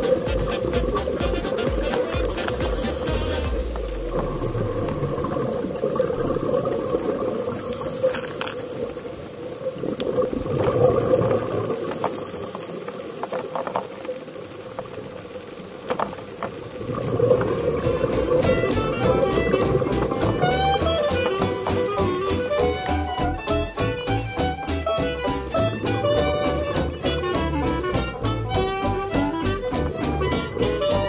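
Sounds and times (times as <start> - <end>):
underwater bubbles rushing: 0.0 - 31.0.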